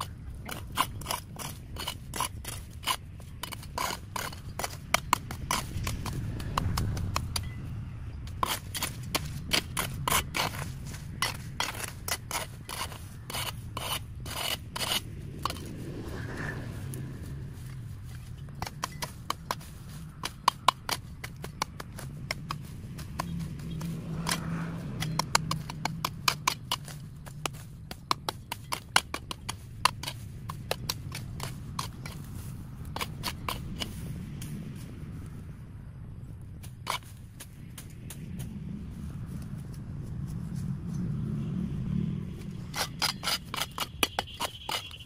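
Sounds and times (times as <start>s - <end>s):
hand tools cutting vegetation: 0.0s - 35.4s, 36.5s - 38.6s, 42.2s - 45.0s
low steady rumble: 0.0s - 44.7s.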